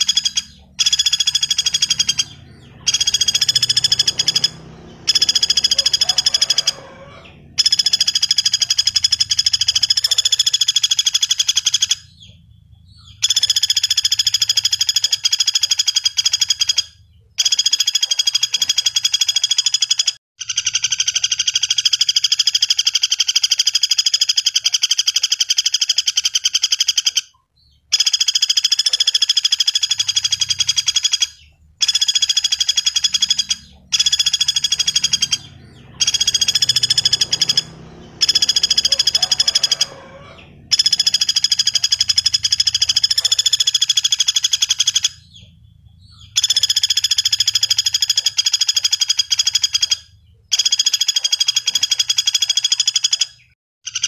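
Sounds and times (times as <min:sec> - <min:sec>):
woodpecker trilling rattles: 0:00.0 - 0:54.0.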